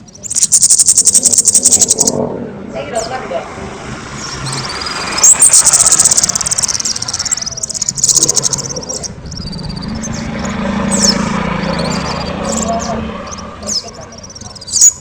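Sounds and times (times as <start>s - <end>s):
bird singing trills: 0.0s - 3.3s, 4.0s - 15.0s
low steady hum: 0.0s - 15.0s.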